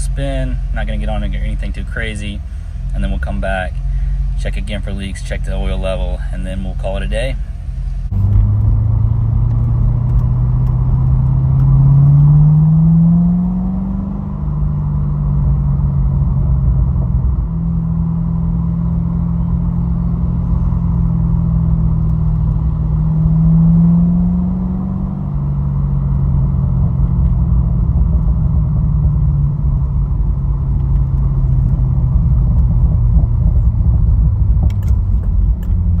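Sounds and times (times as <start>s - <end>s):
car engine rumbling in cabin: 0.0s - 36.0s.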